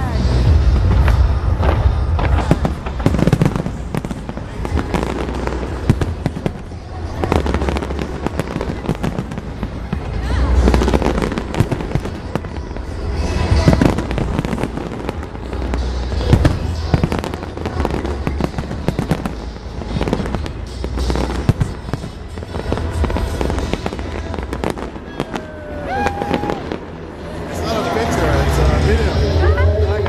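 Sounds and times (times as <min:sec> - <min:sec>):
fireworks bangs and crackles: 0:00.0 - 0:30.0
steady low rumble: 0:00.0 - 0:30.0.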